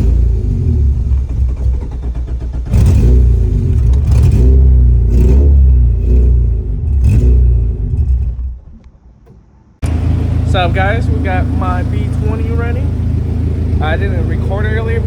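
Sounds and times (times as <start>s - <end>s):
car engine revving: 0.0s - 8.8s, 9.8s - 15.0s.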